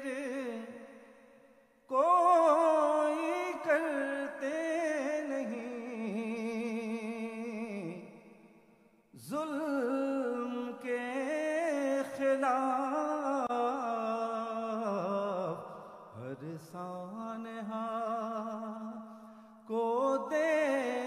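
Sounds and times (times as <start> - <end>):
person singing with vibrato: 0.0 - 8.5, 9.2 - 21.0.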